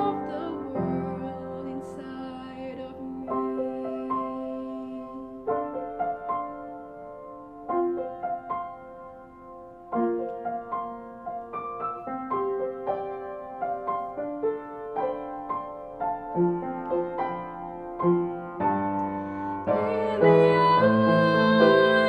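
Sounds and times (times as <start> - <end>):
slow gentle piano melody: 0.0 - 22.0.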